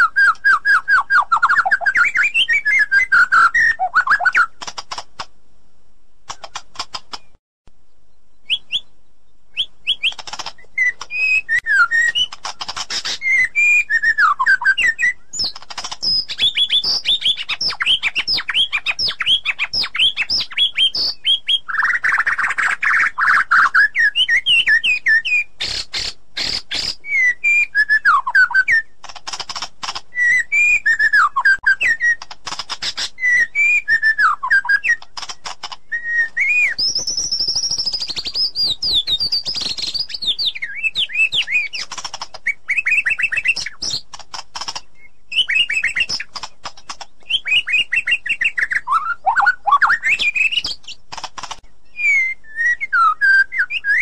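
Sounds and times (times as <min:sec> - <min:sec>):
songbird whistling and trilling: 0:00.0 - 0:04.6, 0:08.3 - 0:29.0, 0:30.1 - 0:35.1, 0:35.8 - 0:44.1, 0:44.9 - 0:51.0, 0:51.8 - 0:54.0.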